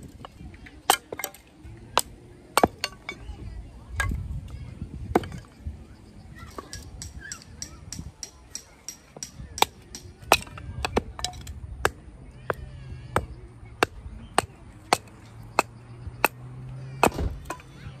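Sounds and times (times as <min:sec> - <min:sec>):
axe chopping firewood: 0:00.2 - 0:03.2, 0:05.1 - 0:05.5, 0:06.6 - 0:17.9.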